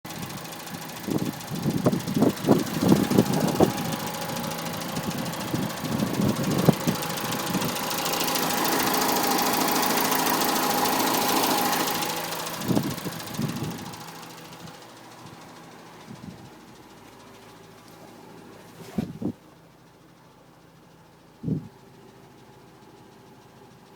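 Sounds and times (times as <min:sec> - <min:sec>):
car engine running with tapping: 0:00.1 - 0:23.9.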